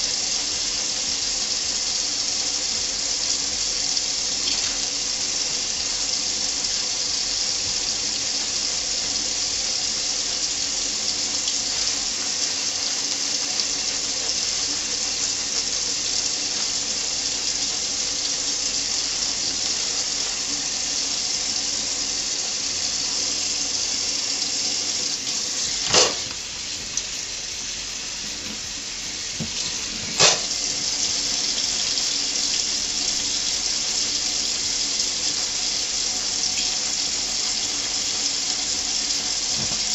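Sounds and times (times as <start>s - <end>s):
faucet running into metal sink: 0.0s - 39.9s.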